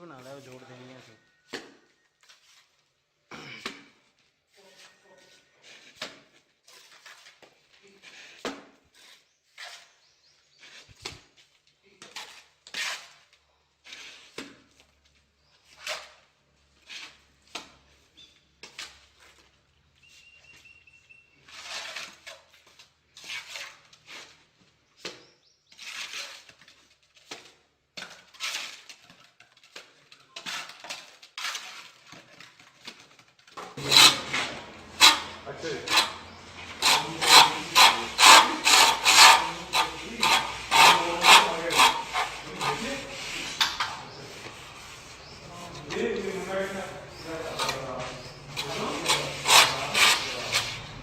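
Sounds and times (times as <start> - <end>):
rubbing and scraping: 0.0 - 51.0.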